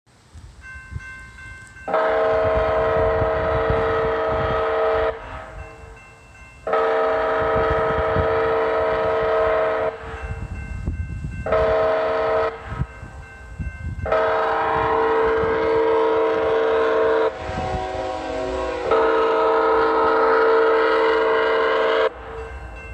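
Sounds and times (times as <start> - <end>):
low train rumble: 0.1 - 22.9
multi-chime train horn: 0.6 - 22.9.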